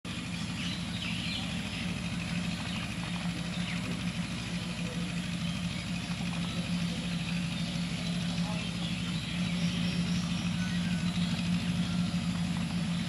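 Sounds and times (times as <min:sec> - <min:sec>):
engine idling hum: 0:00.0 - 0:13.0
faint chirps: 0:00.4 - 0:13.0.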